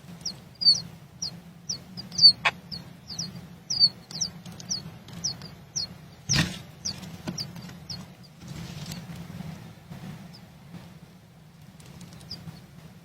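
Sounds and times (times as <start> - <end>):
bird chirping: 0.0 - 9.1, 10.2 - 10.5, 11.8 - 12.8.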